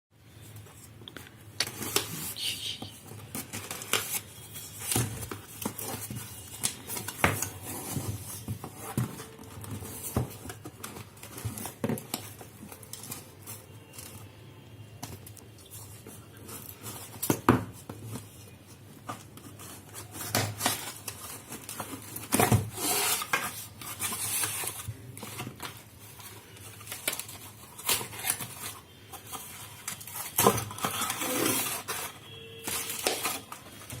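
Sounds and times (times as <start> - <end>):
packaging being handled: 0.4 - 34.0.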